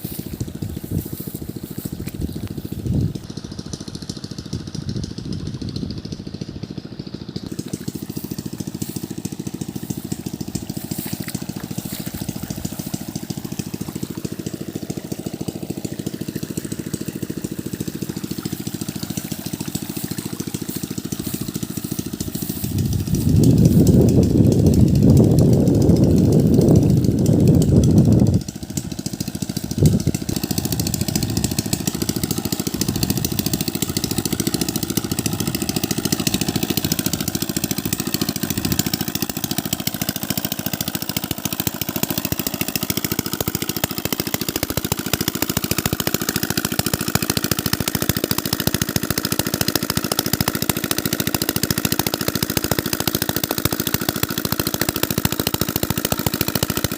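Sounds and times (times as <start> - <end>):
diesel pump engine running: 0.0 - 56.9.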